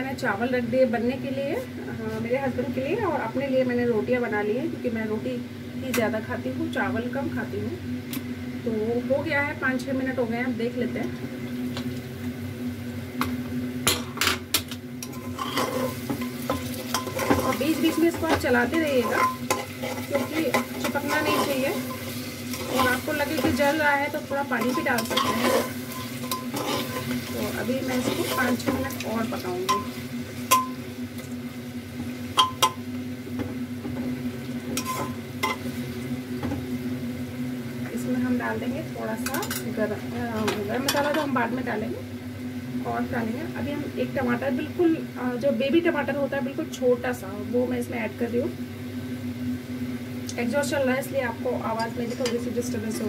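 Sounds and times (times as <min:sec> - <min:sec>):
exhaust fan humming: 0:00.0 - 0:53.0.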